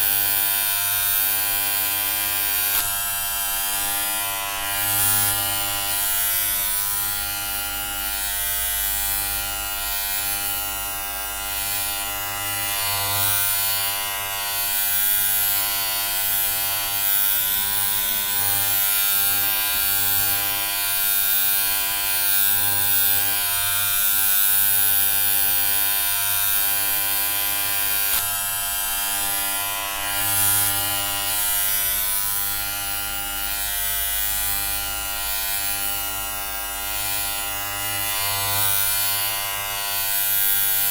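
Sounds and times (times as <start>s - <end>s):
electric hair clippers buzzing: 0.0s - 40.9s.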